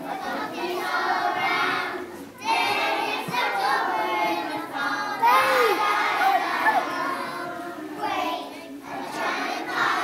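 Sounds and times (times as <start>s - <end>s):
children singing in unison: 0.0s - 10.0s.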